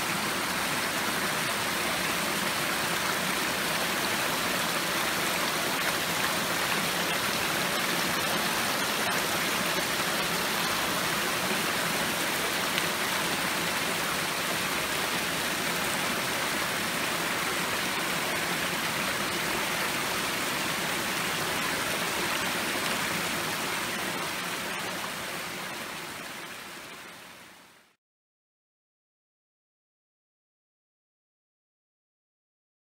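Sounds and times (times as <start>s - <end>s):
waterfall rushing: 0.0s - 27.2s.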